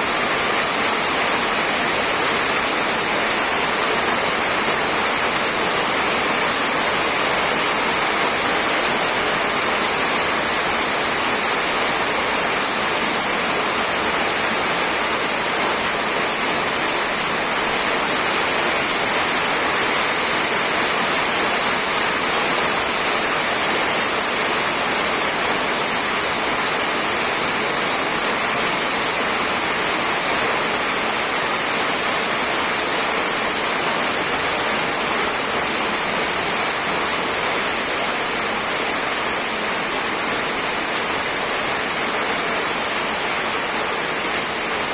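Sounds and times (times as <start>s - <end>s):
heavy rain on a tin roof: 0.0s - 44.9s.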